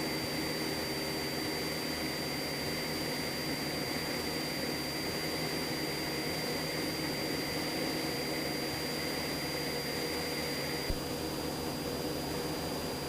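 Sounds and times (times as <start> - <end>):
airplane engine droning in cabin: 0.0 - 13.0.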